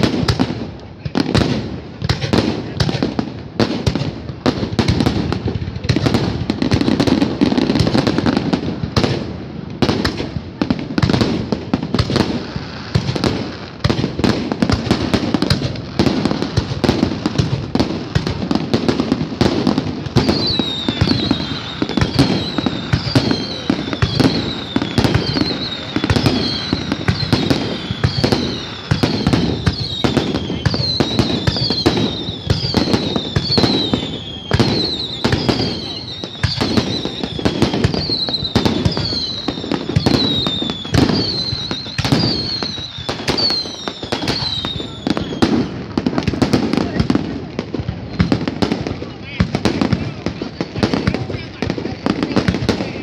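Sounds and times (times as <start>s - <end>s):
fireworks bangs and crackling: 0.0s - 53.0s.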